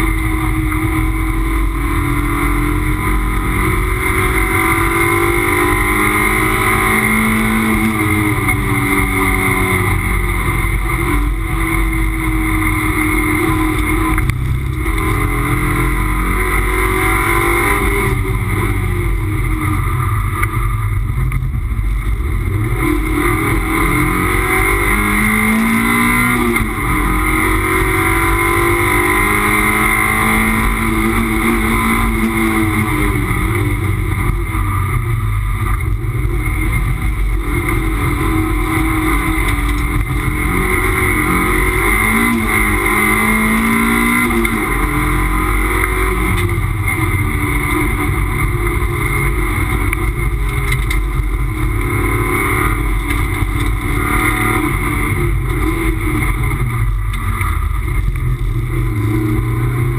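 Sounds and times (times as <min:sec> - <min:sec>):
race car engine revving: 0:00.0 - 0:59.9
road and wind noise: 0:00.0 - 0:59.9.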